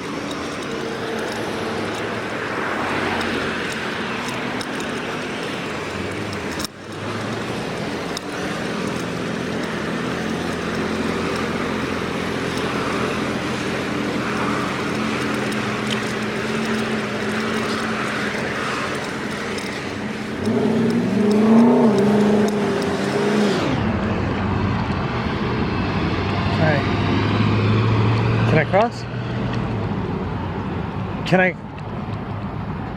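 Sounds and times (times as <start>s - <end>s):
vehicles passing on street: 0.0s - 32.9s
vehicle engine shifting pitch: 0.8s - 28.7s.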